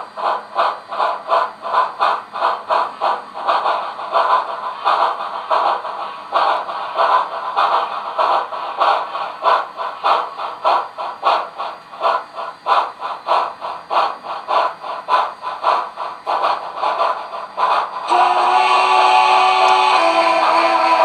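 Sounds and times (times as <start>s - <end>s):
steam locomotive chuffs: 0.0s - 21.0s.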